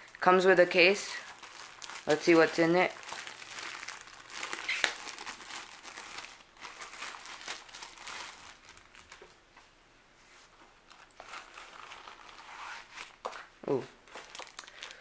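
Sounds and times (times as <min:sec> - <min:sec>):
packaging crinkling and rustling: 0:00.0 - 0:09.4, 0:10.9 - 0:15.0.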